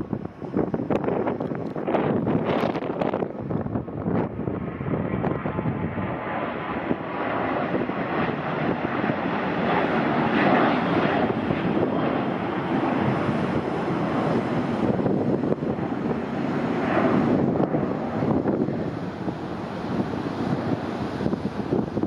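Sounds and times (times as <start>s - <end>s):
jet engines at takeoff thrust: 0.0s - 22.0s.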